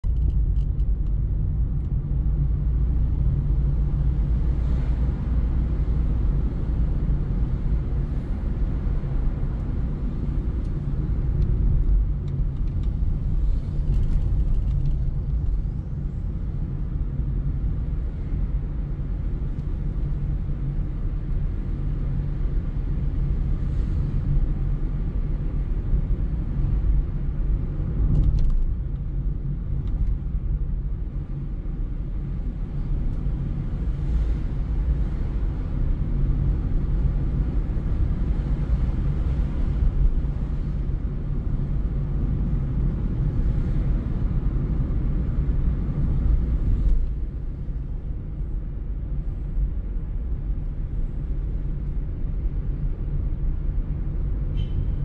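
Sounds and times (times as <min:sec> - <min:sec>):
car cabin engine and tyre rumble: 0:00.0 - 0:55.0.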